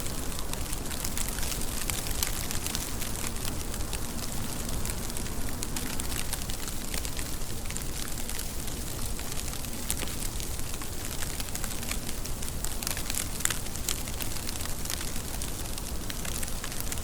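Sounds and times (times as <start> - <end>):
steady rain with ticking drops: 0.0 - 17.0.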